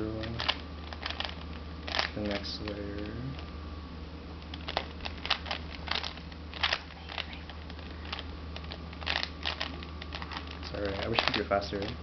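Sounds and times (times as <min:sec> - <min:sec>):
steady low hum: 0:00.0 - 0:12.0
puzzle cube plastic clicks: 0:00.2 - 0:03.2, 0:04.4 - 0:12.0.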